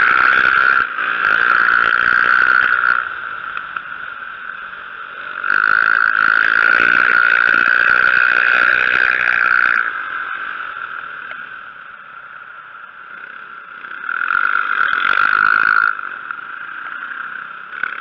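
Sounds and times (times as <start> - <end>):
dirt motorcycle engine revving: 0.0 - 18.0.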